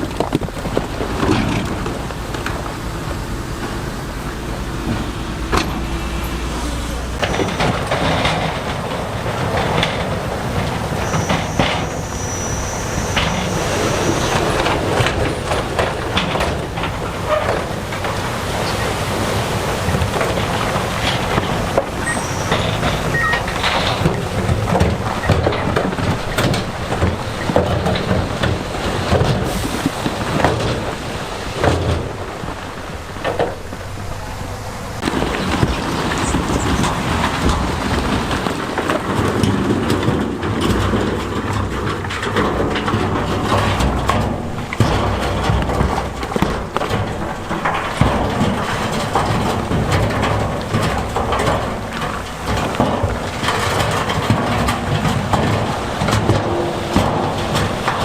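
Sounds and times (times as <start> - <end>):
bulldozer diesel engine running: 0.0 - 58.0
tracks and stone clattering: 0.0 - 58.0.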